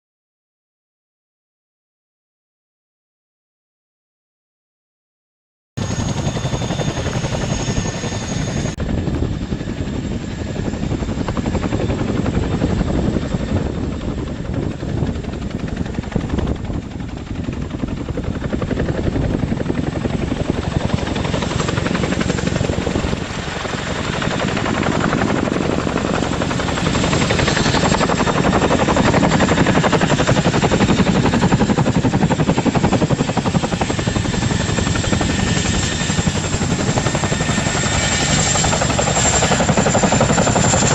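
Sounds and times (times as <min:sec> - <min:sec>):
helicopter rotors chopping: 0:05.8 - 0:40.9.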